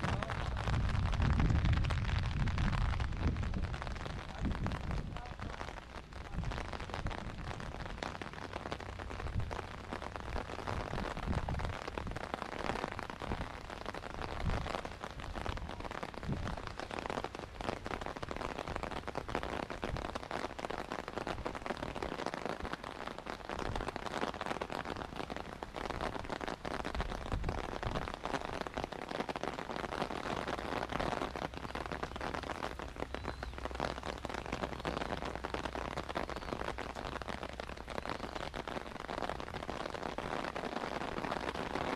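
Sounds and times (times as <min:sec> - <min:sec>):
steady rain pattering: 0:00.0 - 0:41.9.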